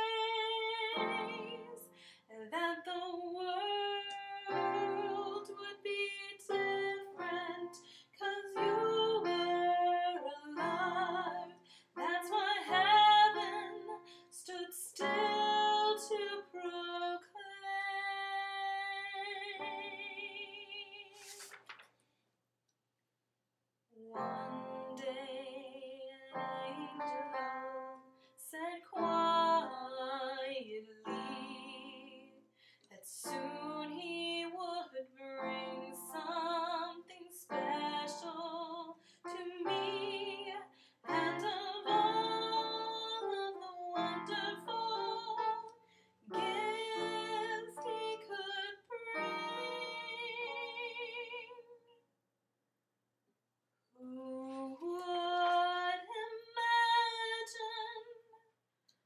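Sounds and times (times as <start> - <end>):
piano: 0.0 - 21.3, 24.2 - 32.5, 33.2 - 51.5
woman singing with vibrato: 0.0 - 21.3, 24.0 - 27.3, 28.4 - 32.4, 33.0 - 45.7, 46.3 - 52.0, 54.0 - 58.4.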